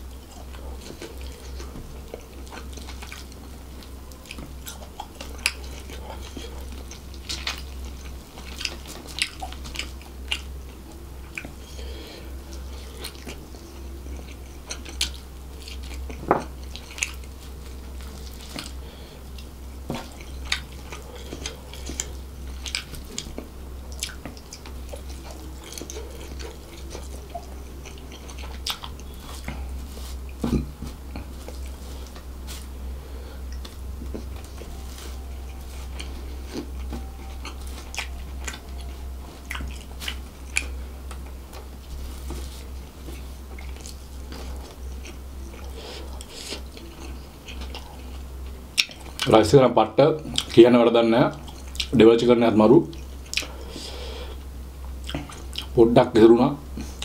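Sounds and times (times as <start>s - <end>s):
chewing and wet mouth sounds: 0.0s - 49.5s, 50.2s - 52.2s, 52.8s - 55.9s
low hum: 0.0s - 55.9s.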